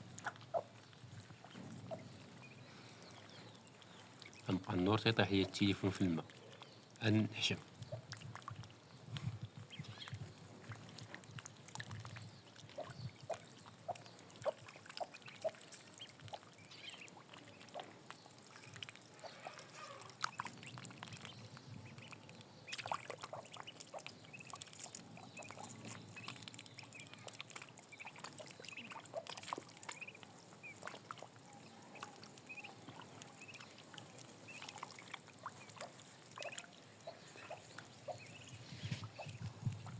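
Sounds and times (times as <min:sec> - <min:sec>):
water splashing and dribbling: 0:00.0 - 0:39.9.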